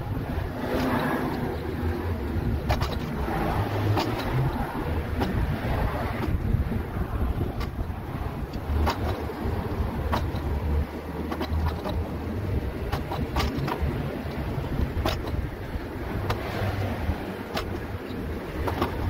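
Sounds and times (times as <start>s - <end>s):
mobility scooter rumble: 0.0s - 19.0s
wind buffeting microphone: 0.0s - 19.0s.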